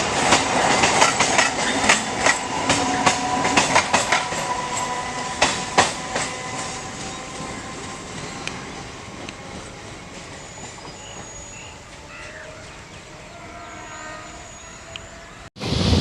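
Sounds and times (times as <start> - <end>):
electric train running: 0.0 - 16.0.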